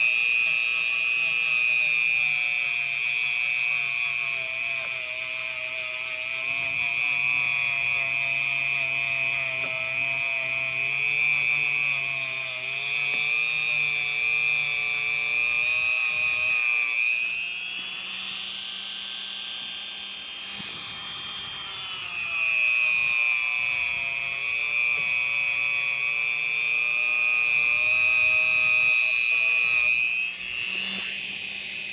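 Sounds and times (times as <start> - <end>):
rotary tool wire wheel whining: 4.3 - 31.9.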